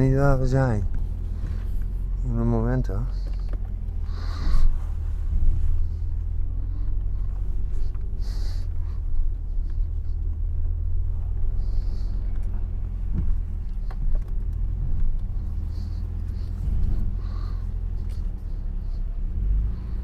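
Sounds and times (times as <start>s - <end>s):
car engine exhaust rumble: 0.0s - 20.0s.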